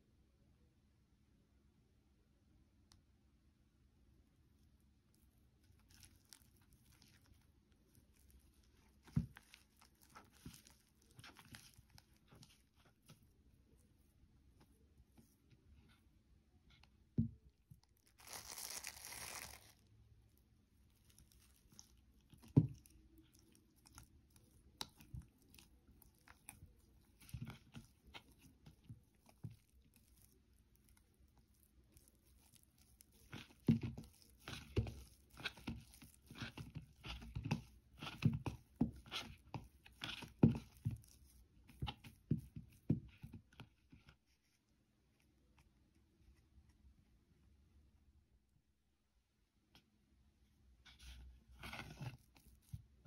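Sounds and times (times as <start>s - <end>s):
dough squishing and tearing: 4.2s - 46.9s, 50.8s - 53.0s.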